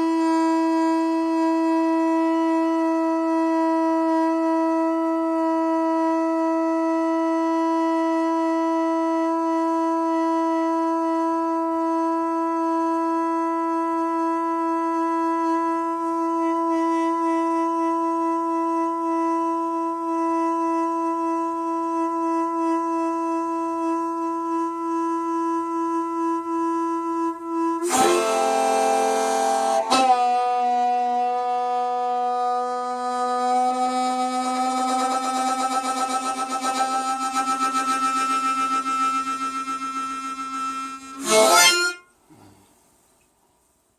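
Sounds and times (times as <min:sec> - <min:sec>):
wind instrument holding a note: 0:00.0 - 0:42.7.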